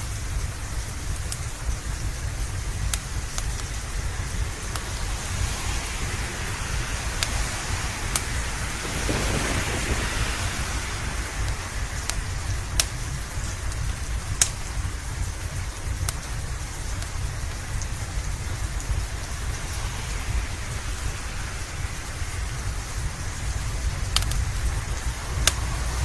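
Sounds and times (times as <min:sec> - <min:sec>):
low constant rumble: 0:00.0 - 0:26.0
steady rain: 0:00.0 - 0:26.0
thunder rolling: 0:01.0 - 0:26.0.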